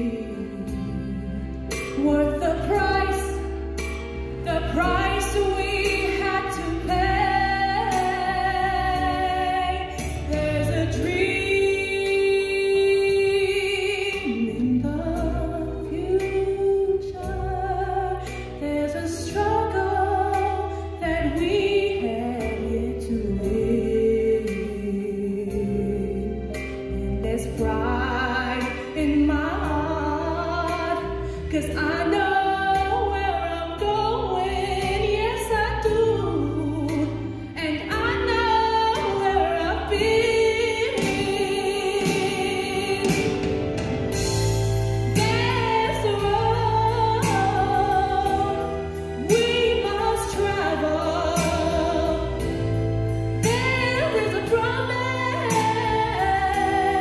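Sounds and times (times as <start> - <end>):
low musical accompaniment: 0.0 - 57.0
woman singing a slow ballad: 0.0 - 57.0.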